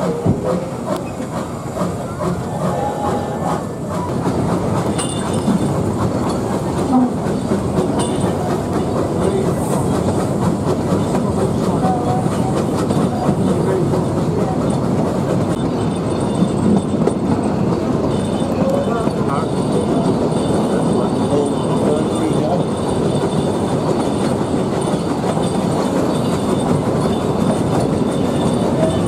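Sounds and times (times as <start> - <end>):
train wheels clacking on rails: 0.0 - 29.0.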